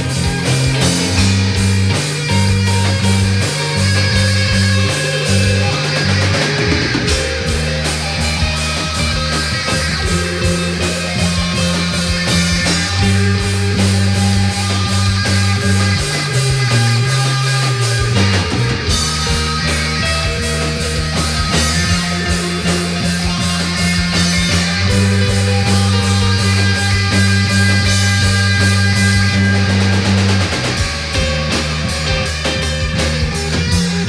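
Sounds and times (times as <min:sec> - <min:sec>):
bass notes: 0:00.0 - 0:34.0
drums steady beat: 0:00.0 - 0:34.0
electric guitar: 0:00.0 - 0:34.0.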